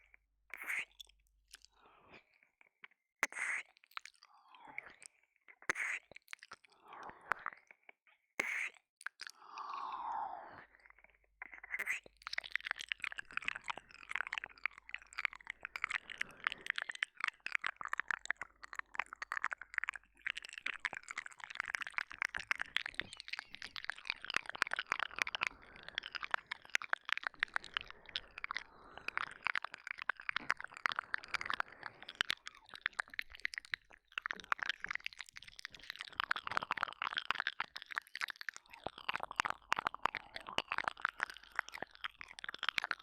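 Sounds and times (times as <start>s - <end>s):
wet mouth licking and smacking: 0.5s - 1.8s, 2.8s - 43.0s.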